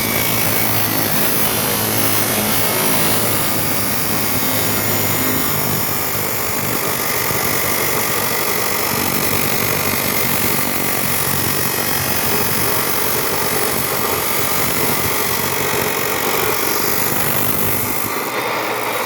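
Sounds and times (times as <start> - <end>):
chop saw cutting: 0.0 - 19.0.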